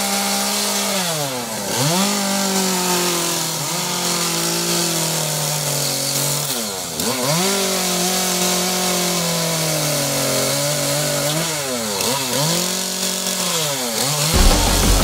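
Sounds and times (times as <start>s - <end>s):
chainsaw carving wood: 0.0s - 15.0s.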